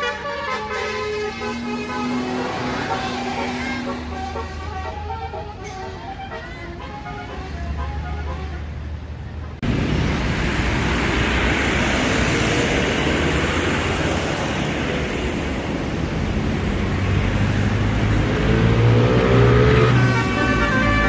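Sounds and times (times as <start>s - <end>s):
heavy traffic passing: 0.0s - 21.0s.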